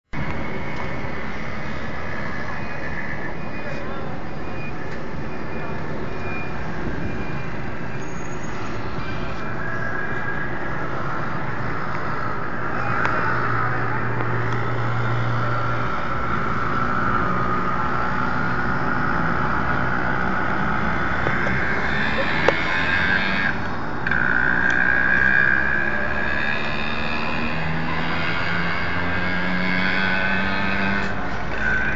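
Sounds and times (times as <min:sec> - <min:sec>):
vehicle engines running: 0:00.2 - 0:31.9.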